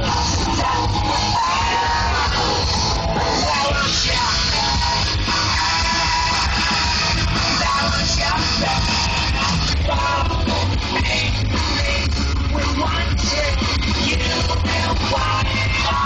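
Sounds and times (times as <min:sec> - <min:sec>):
heavy bass: 0:00.0 - 0:16.0
person singing: 0:00.0 - 0:16.0
rock guitar: 0:00.0 - 0:16.0.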